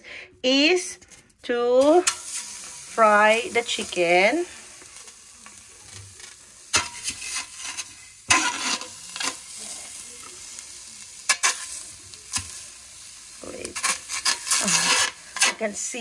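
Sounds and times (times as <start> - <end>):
chicken sizzling in a pot: 0.4 - 16.0
hot pan hissing: 1.5 - 16.0.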